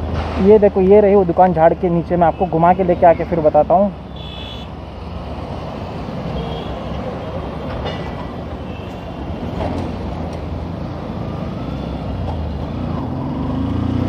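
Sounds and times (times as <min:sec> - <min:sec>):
hum of surrounding vehicles: 0:00.0 - 0:14.0
road and wind noise: 0:00.0 - 0:14.0.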